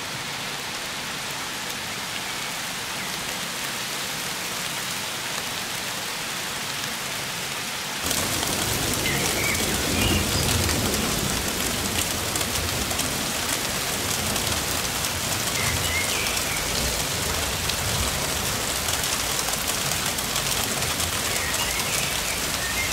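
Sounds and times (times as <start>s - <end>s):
steady rain on grass: 0.0s - 22.9s.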